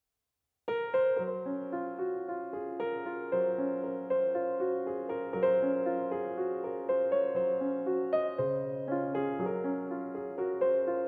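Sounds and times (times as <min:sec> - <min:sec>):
piano music: 0:00.7 - 0:11.0.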